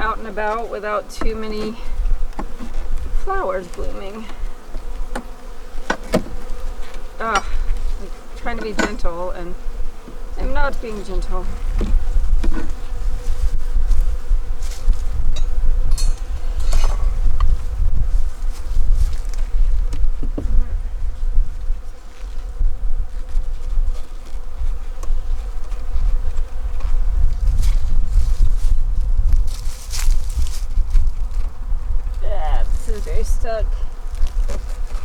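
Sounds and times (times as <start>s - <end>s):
hive frames clicking and scraping: 0.0s - 17.7s, 21.6s - 35.0s
bees buzzing: 0.0s - 35.0s.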